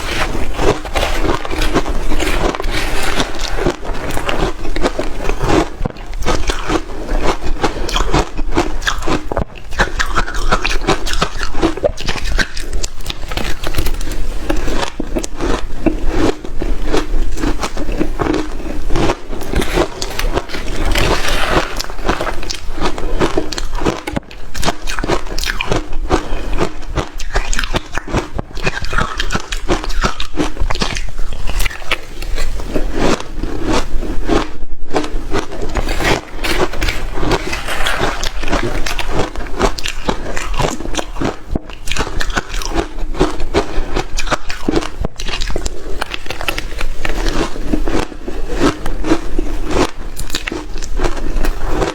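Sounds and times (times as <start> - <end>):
crunching shaved ice: 0.0 - 34.4, 35.0 - 51.9.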